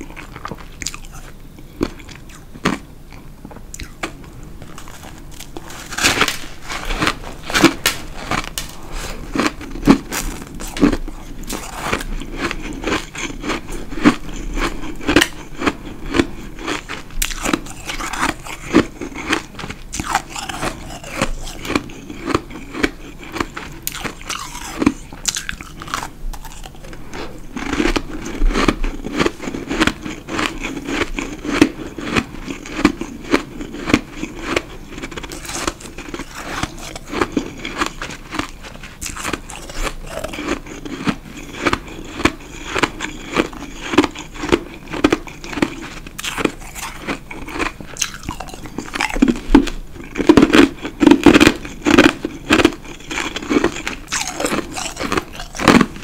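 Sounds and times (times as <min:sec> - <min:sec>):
crunching ice: 0:04.7 - 0:27.0, 0:27.6 - 0:56.0.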